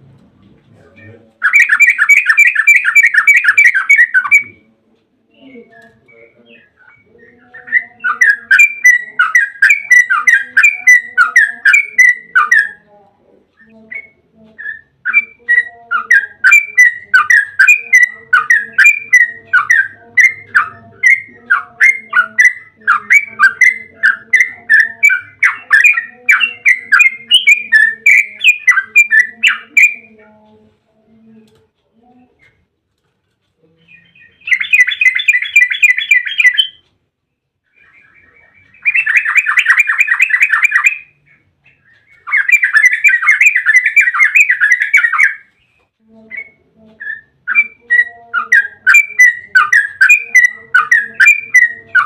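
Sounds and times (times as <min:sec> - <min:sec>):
bird chattering song: 0:01.0 - 0:04.7, 0:05.3 - 0:12.9, 0:13.6 - 0:31.4, 0:33.6 - 0:36.9, 0:37.7 - 0:52.0.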